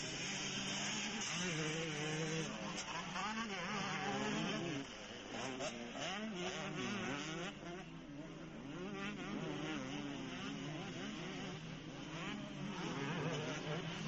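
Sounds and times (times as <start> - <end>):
motocross bike engines racing past: 0.0 - 14.0.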